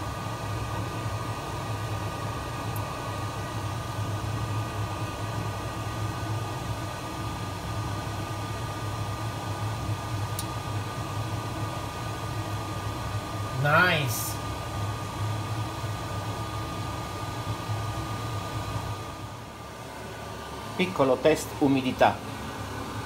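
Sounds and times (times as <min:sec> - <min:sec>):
gas burner hissing: 0:00.0 - 0:23.0.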